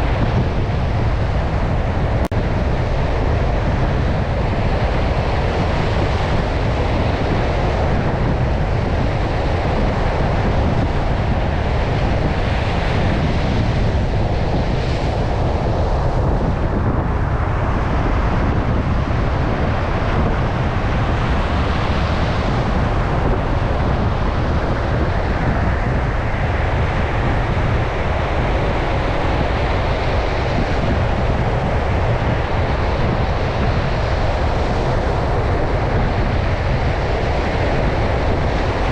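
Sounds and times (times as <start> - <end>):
ocean surf breaking: 0.0 - 38.9
wind buffeting microphone: 0.0 - 38.9.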